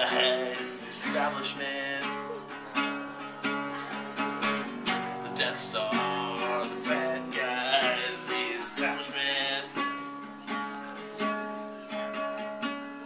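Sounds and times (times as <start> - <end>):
classical guitar strumming chords: 0.0 - 13.0.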